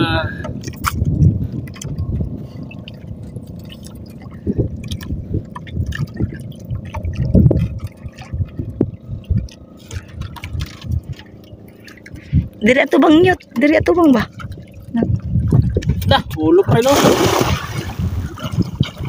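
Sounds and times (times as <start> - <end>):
water lapping against boat hull: 0.0 - 19.0.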